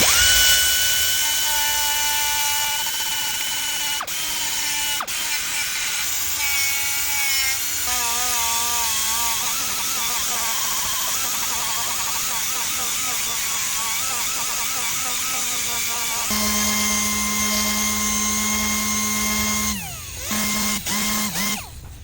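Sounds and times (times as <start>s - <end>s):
power tool whining: 0.0s - 22.0s.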